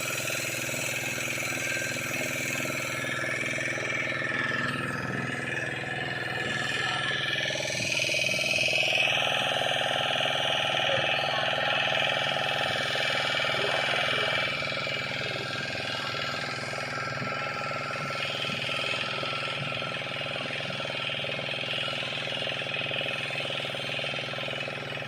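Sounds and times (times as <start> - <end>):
engine humming steadily: 0.0 - 25.0.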